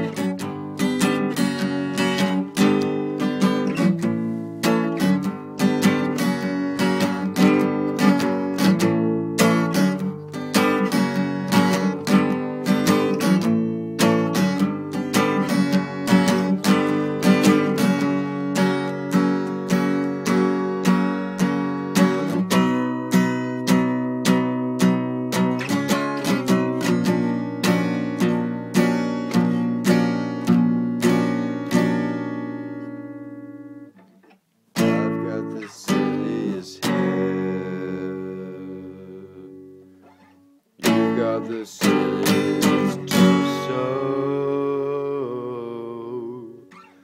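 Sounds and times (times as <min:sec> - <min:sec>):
acoustic guitar strumming chords: 0:00.0 - 0:47.0.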